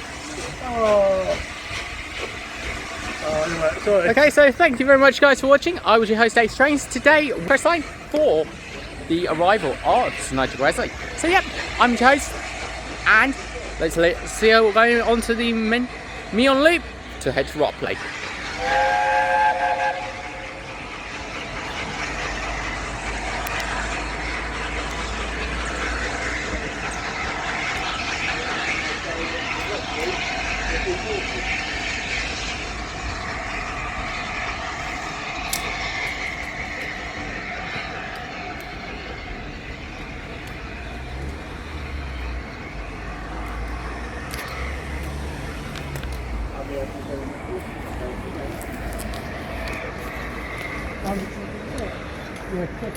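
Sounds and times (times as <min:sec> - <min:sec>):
steam locomotive rumble and hiss: 0:00.0 - 0:52.9.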